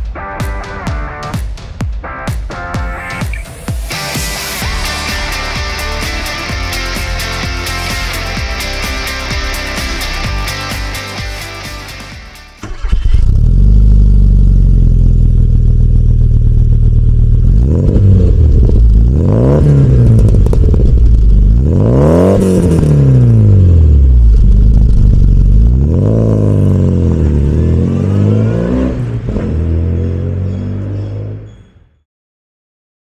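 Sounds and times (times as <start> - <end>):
car engine idling and revving: 3.8 - 31.6.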